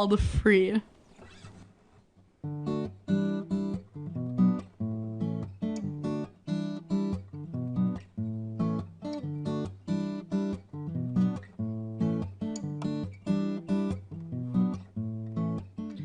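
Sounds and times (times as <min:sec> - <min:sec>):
acoustic guitar strumming: 0:02.4 - 0:16.0.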